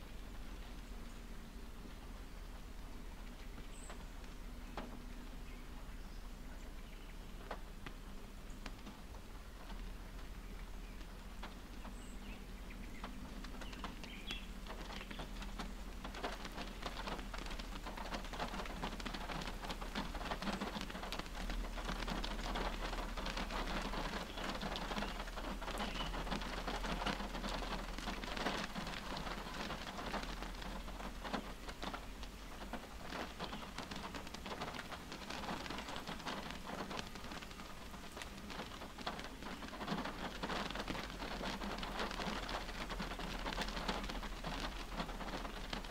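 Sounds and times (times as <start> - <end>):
rain on car roof: 0.0 - 45.9.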